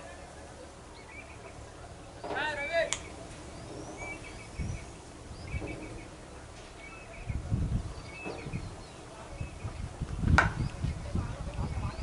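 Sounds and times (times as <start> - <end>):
bird chirping: 0.0 - 12.0
low outdoor rumble: 0.0 - 12.0.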